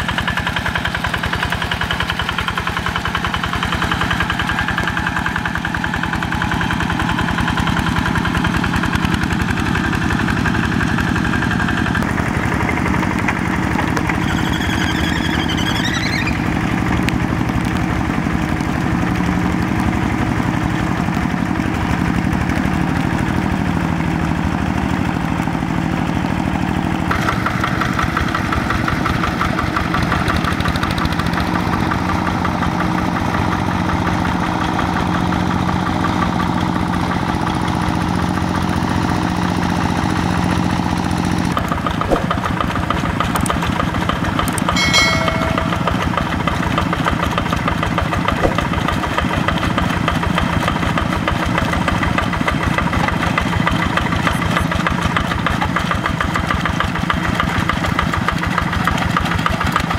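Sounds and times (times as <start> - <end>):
diesel engine chugging: 0.0 - 59.9.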